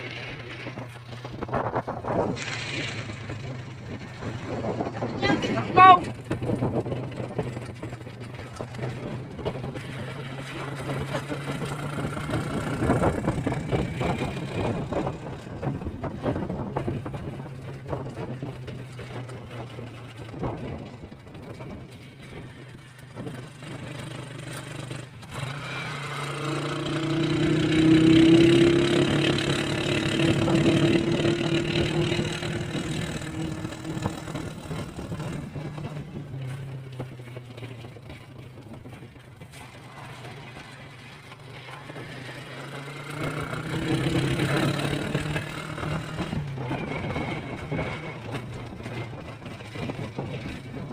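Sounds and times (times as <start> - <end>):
vehicle engine hum: 0.0 - 50.9.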